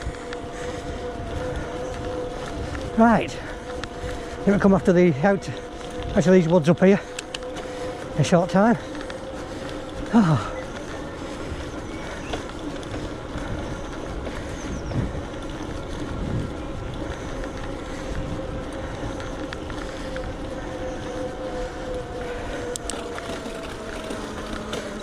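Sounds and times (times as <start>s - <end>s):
wind on microphone: 0.0s - 8.2s, 8.8s - 25.0s
electric bike motor whining: 0.0s - 25.0s.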